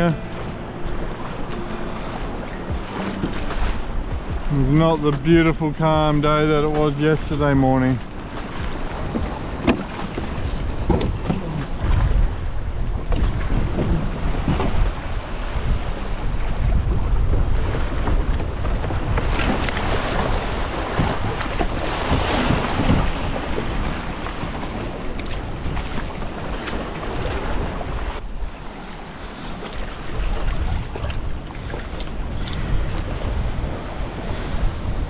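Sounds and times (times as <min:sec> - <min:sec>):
waves surging against rocks: 0:00.0 - 0:35.0
wind buffeting microphone: 0:00.0 - 0:35.0.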